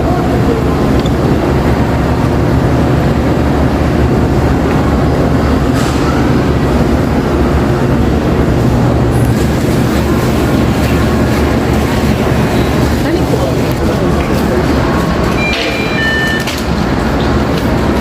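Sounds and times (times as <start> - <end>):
low hum and rumble: 0.0 - 18.0.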